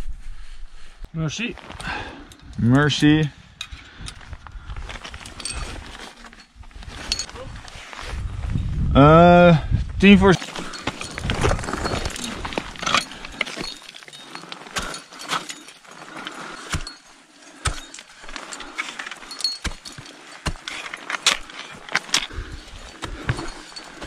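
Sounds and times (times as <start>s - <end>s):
metal climbing gear clinking: 1.6s - 7.9s, 10.3s - 24.0s.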